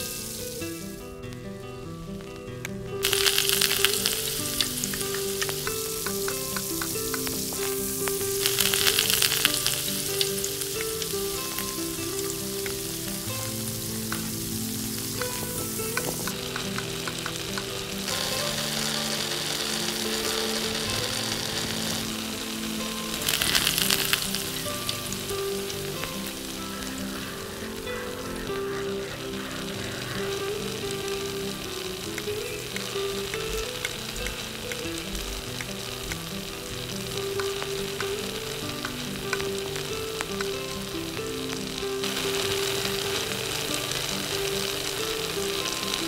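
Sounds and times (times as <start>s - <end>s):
oil sizzling in a wok: 0.0s - 46.0s.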